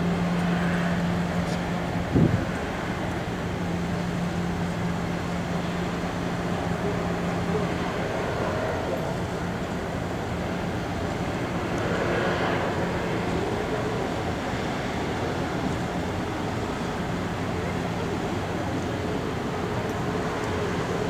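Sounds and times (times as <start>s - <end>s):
ship machinery humming: 0.0s - 21.0s
wind and water rushing: 0.0s - 21.0s.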